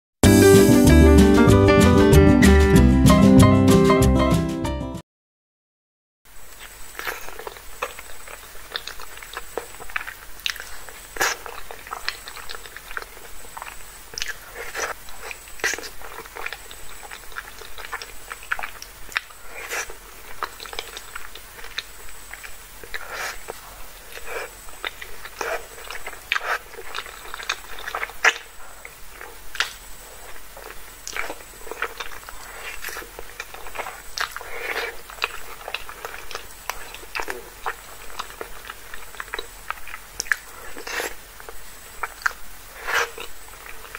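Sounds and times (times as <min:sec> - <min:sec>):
chewing with wet mouth clicks: 0:06.6 - 0:43.9.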